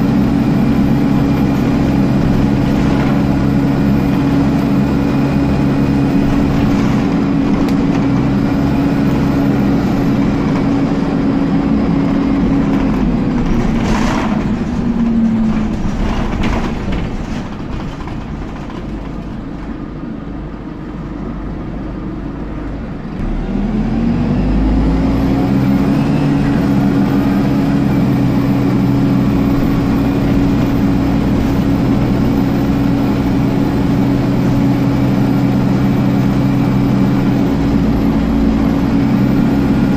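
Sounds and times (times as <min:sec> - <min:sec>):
bus engine and road noise: 0:00.0 - 0:39.9
engine cooling fan whine: 0:00.0 - 0:39.9.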